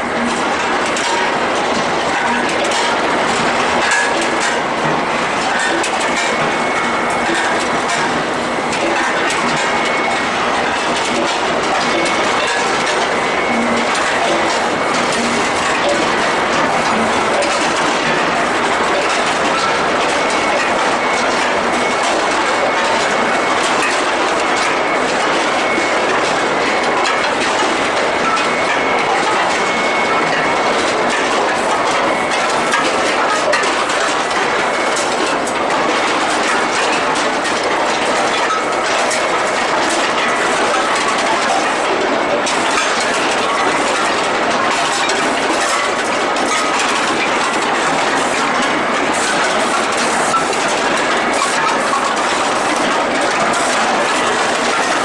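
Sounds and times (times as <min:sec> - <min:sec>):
conveyor metallic clatter: 0:00.0 - 0:55.0.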